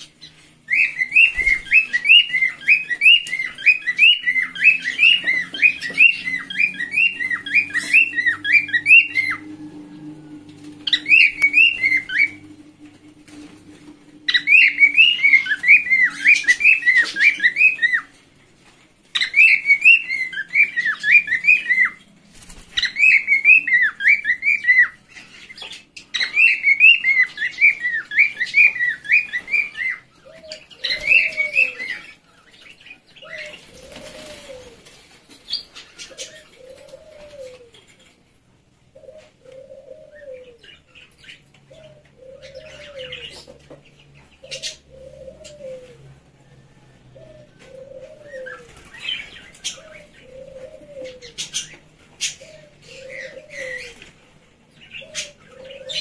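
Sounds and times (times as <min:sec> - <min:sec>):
caged bird calling: 0:00.0 - 0:56.0.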